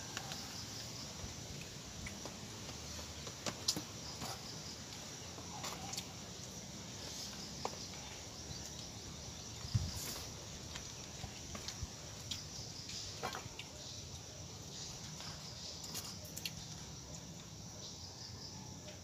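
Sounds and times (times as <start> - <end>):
high insect hum: 0.0 - 19.0.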